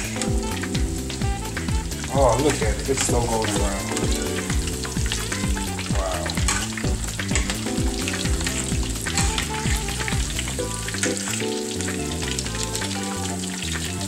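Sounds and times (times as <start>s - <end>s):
fish sizzling in hot oil: 0.0s - 14.0s
music with deep bass beat: 0.0s - 14.0s.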